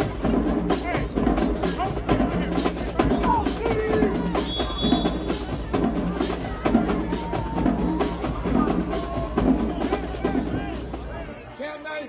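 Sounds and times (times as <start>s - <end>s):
drums beating: 0.0s - 11.4s
marching band playing: 0.0s - 11.5s.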